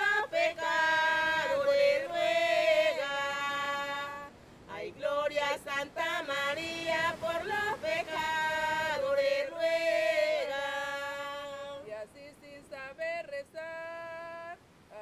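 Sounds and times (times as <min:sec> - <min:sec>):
unaccompanied religious folk chant: 0:00.0 - 0:15.0.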